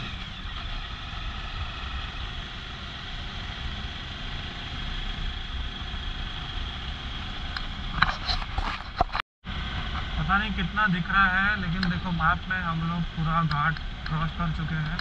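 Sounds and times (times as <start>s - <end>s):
motorcycle engine rumble: 0.0s - 15.0s
road noise: 0.0s - 15.0s.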